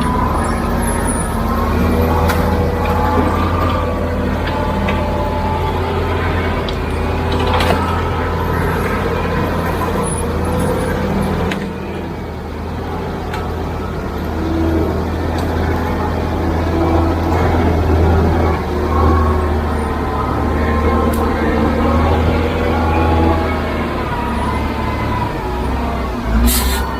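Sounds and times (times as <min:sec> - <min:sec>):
diesel machinery engine drone: 0:00.0 - 0:26.9.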